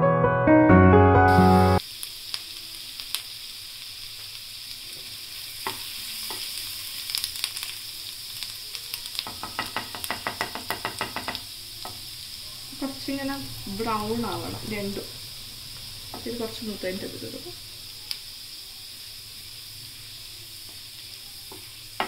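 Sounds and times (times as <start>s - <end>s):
garlic sizzling in oil: 1.3s - 22.0s.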